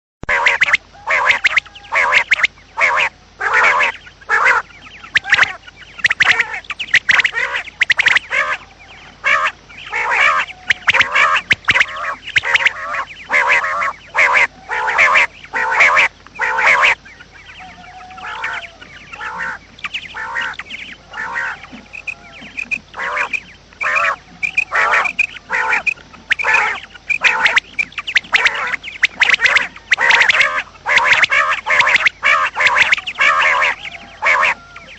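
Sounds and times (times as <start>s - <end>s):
quail calling: 0.2s - 34.9s.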